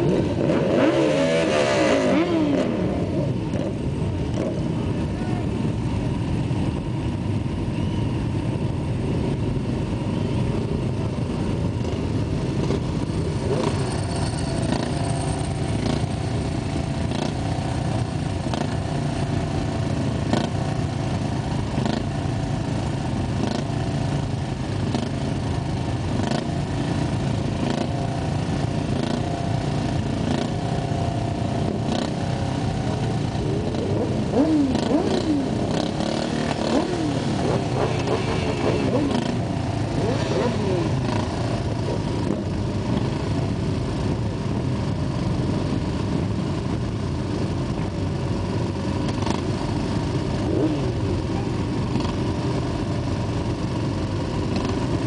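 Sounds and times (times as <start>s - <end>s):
motorcycle engine revving: 0.0s - 5.0s, 10.0s - 55.0s
motorcycle engines idling: 0.0s - 55.0s.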